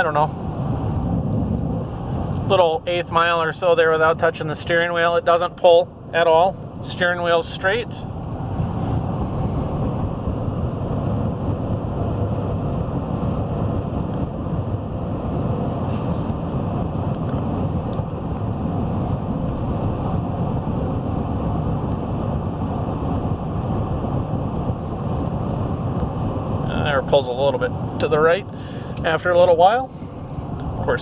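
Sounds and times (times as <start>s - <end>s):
engine and tyre road drone: 0.0s - 31.0s.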